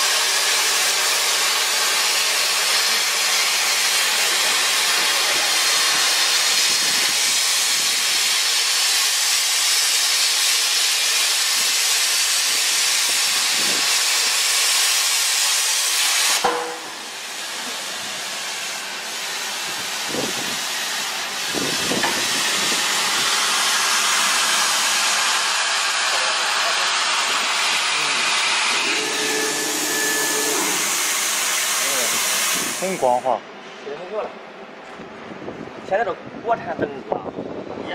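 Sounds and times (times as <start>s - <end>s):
plasma cutter arc hissing: 0.0s - 33.3s.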